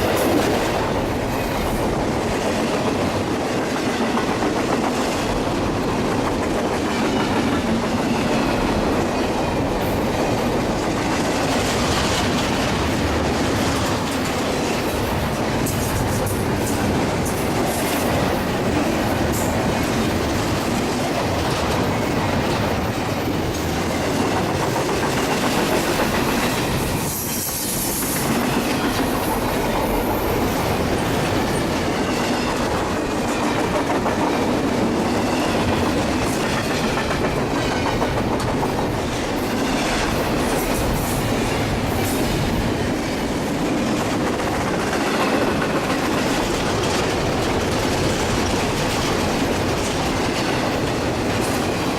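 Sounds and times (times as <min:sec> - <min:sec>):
train rolling on rails: 0:00.0 - 0:51.9.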